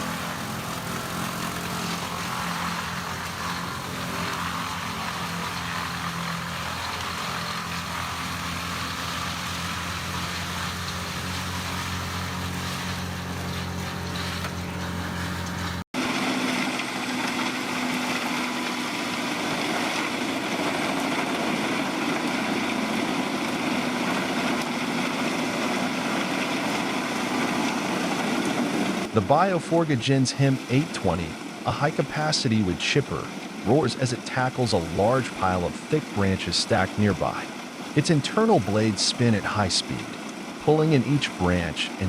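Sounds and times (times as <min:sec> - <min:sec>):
rough hissing wood chipper: 0:00.0 - 0:42.0
wood chipper engine running: 0:00.0 - 0:42.0.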